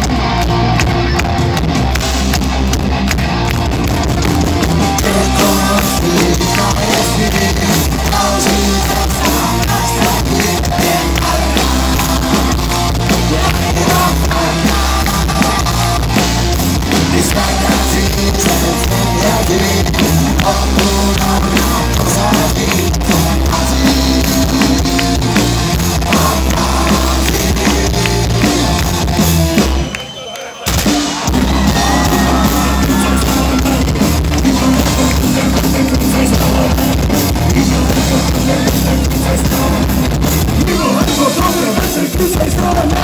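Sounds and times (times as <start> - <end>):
drum kit: 0.0 - 30.0, 30.6 - 43.0
electric guitars: 0.0 - 43.0
person singing: 4.8 - 29.0, 31.3 - 43.0.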